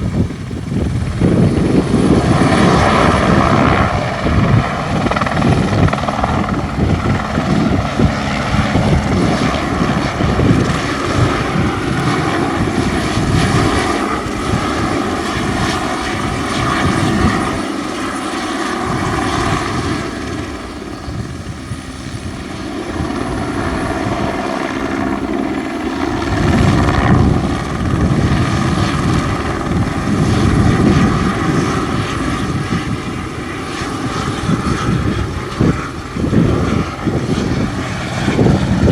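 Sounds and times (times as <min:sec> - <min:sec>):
helicopter rotor chop: 0:00.0 - 0:38.9
high turbine whine: 0:00.0 - 0:38.9.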